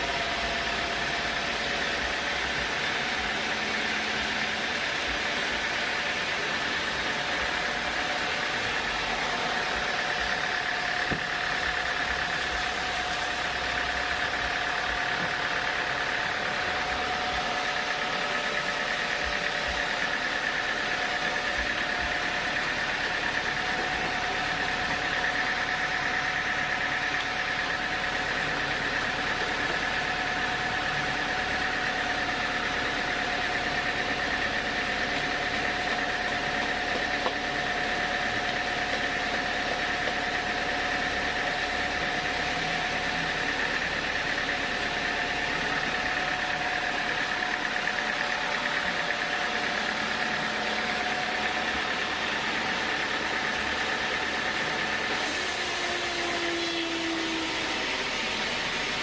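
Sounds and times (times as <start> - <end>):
constant machine whine: 0.0 - 59.0
sawmill machinery running: 0.0 - 59.0.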